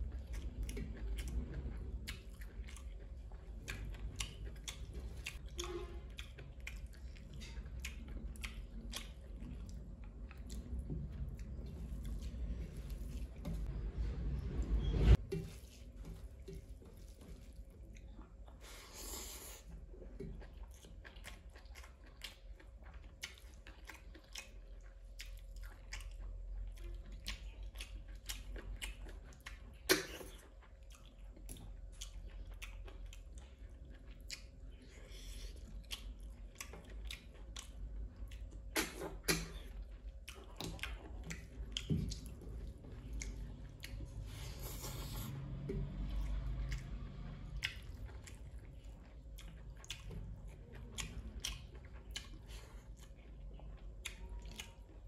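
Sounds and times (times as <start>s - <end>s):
chewing with wet mouth smacks: 0.0s - 13.7s, 15.3s - 55.0s.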